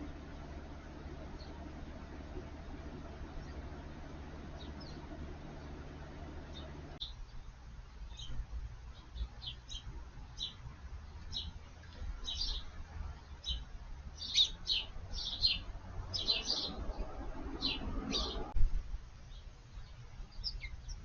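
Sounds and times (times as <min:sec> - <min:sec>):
birds chirping: 0:00.0 - 0:18.6, 0:19.3 - 0:21.0
low background rumble: 0:00.0 - 0:21.0.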